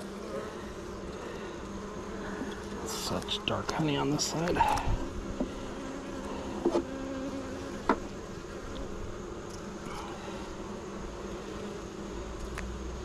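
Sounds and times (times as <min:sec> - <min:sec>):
bees humming in a hive: 0:00.0 - 0:13.0.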